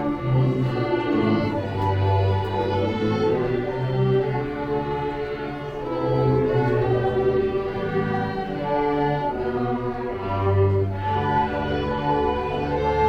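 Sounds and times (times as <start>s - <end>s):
slow orchestral music: 0.0s - 13.0s.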